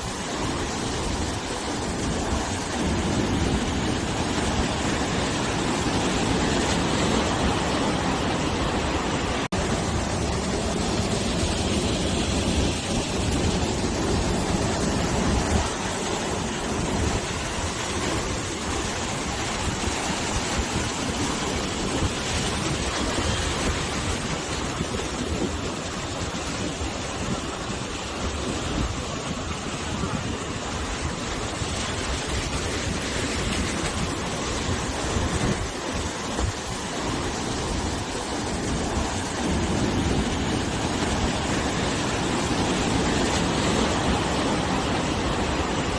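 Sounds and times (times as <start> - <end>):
sea waves breaking on shore: 0.0 - 45.9
wind buffeting microphone: 0.0 - 45.9.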